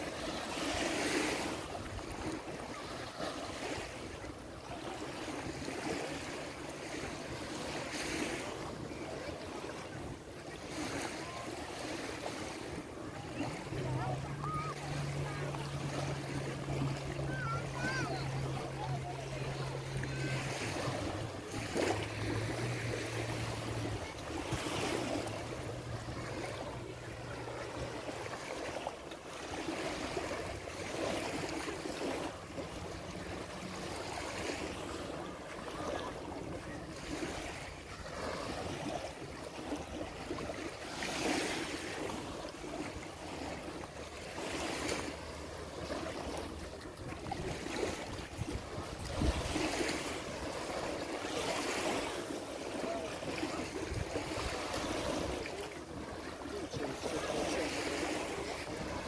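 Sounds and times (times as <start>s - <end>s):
small waves lapping on sand: 0.0s - 59.0s.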